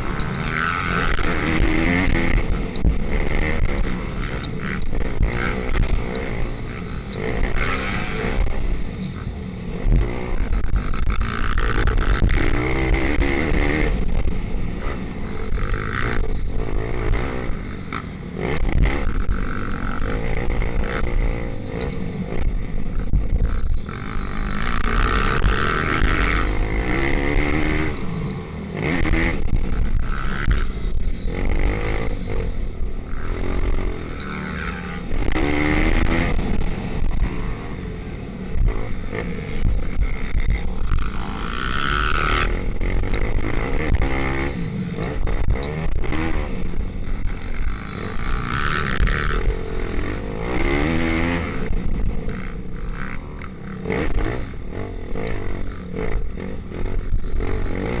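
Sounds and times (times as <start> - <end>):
pit bike engines revving: 0.0 - 58.0.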